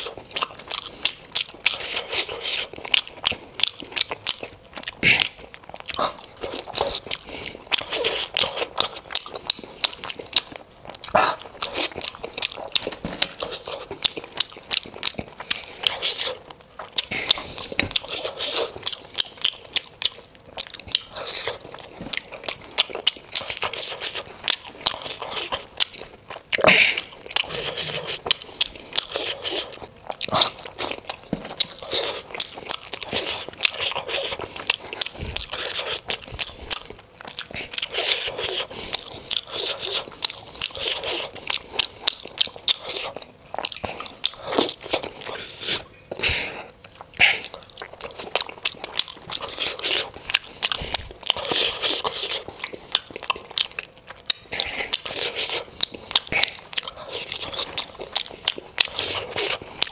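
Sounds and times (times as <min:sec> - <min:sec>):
chewing and biting dumplings: 0:00.0 - 0:59.9
mouth clicks and smacks: 0:00.0 - 0:59.9.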